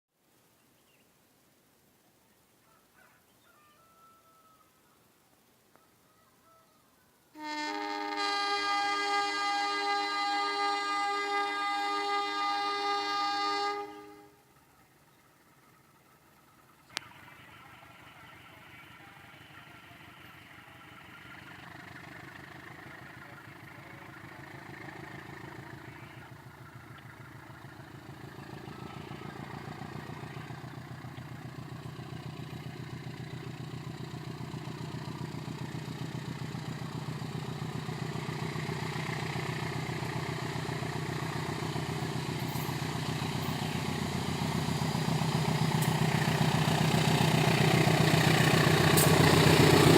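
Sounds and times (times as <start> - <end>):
diesel locomotive engine throbbing: 7.4 - 49.9.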